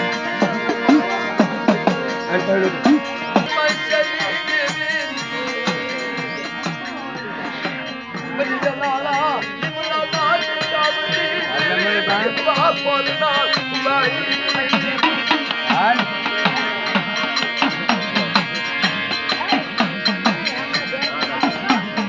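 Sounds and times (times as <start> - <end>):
held drone tones: 0.0 - 22.0
wavering folk melody: 0.0 - 22.0.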